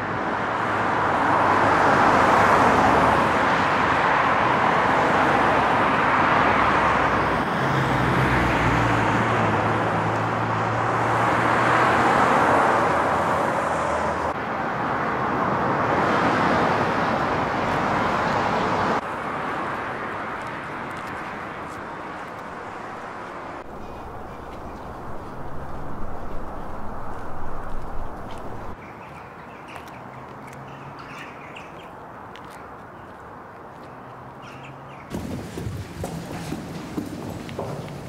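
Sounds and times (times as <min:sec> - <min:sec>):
cars passing on road: 0:00.0 - 0:38.0
traffic hum: 0:00.0 - 0:38.0.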